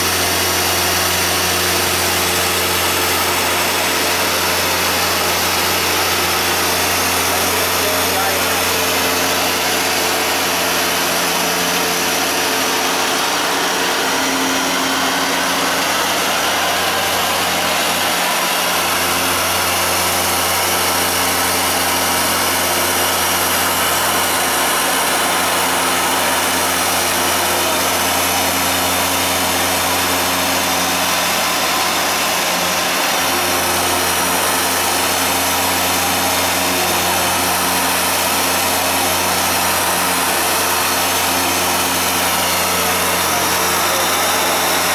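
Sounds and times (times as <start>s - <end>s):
carpet washer running: 0.0s - 44.9s.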